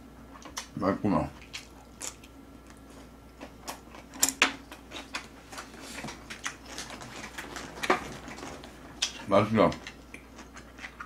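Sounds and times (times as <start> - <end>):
person chewing food: 1.4 - 11.0.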